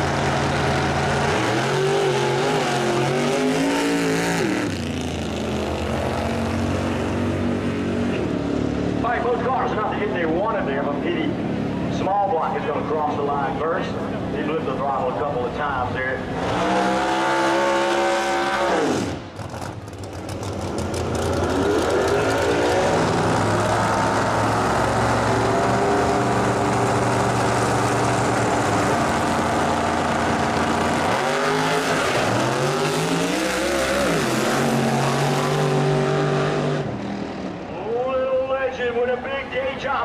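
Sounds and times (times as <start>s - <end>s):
drag car engines revving: 0.0s - 40.0s.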